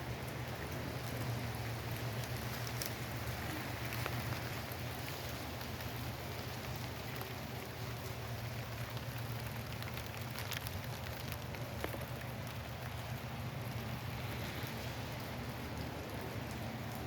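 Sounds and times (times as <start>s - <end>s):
close raindrops striking: 0.0s - 17.0s
steady rain falling: 0.0s - 17.0s.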